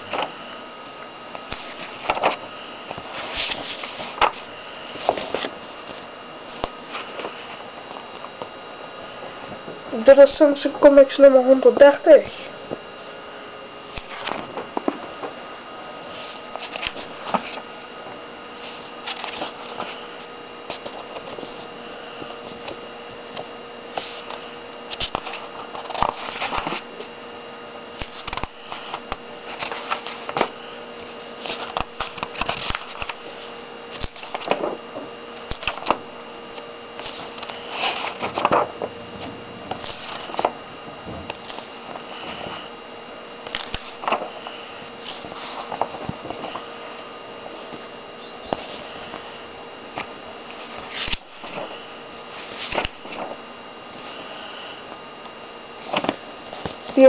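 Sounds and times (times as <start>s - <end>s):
paper pages rustling and turning: 0.0s - 0.4s, 1.3s - 8.5s, 13.9s - 15.4s, 16.1s - 27.1s, 28.0s - 40.6s, 41.2s - 42.7s, 43.4s - 47.9s, 48.5s - 54.3s, 55.8s - 57.0s
faint hum: 0.0s - 57.0s.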